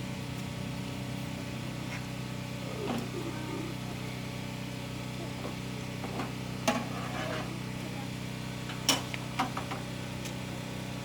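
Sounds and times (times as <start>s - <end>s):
engine running with low hum: 0.0s - 11.0s.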